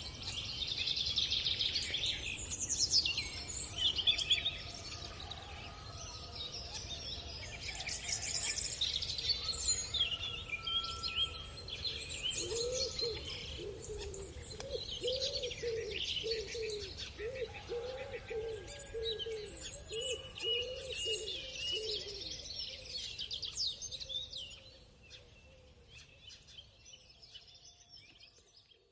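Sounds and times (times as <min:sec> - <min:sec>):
birds singing and chirping: 0:00.0 - 0:28.9
low repeated bird calls: 0:00.0 - 0:28.9.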